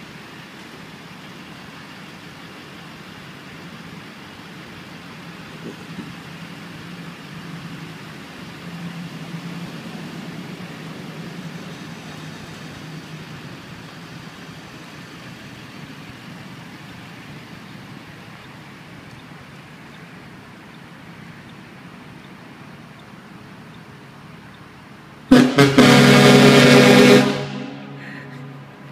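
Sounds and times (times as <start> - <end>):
truck engine driving away: 2.2 - 28.9.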